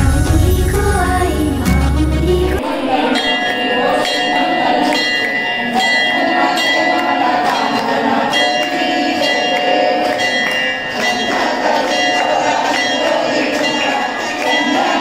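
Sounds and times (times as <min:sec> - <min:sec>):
crowd hubbub: 0:00.0 - 0:15.0
metal bells ringing: 0:03.0 - 0:15.0.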